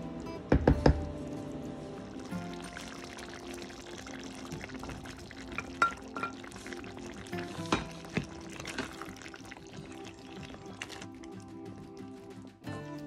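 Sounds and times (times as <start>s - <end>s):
stew simmering: 0.0s - 12.8s
background music: 0.0s - 13.0s.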